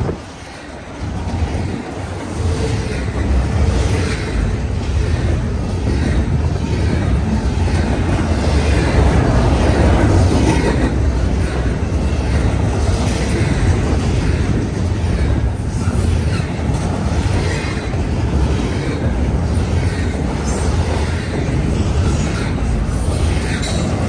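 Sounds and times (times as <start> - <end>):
train wheels rumbling on rail: 0.0 - 24.0
wind buffeting microphone: 0.0 - 24.0.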